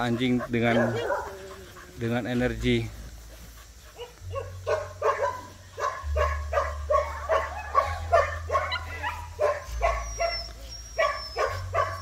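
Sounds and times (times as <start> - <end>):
dog barking: 0.0 - 1.7, 3.9 - 12.0.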